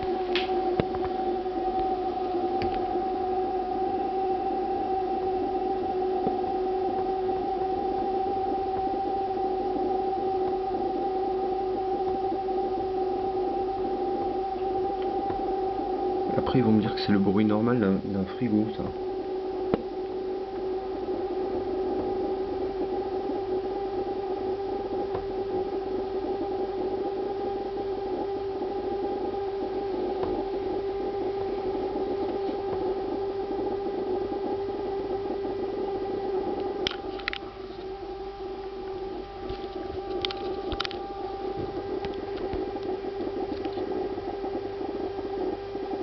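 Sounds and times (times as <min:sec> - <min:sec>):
refrigerator humming with buzzing rattle: 0:00.0 - 0:46.0.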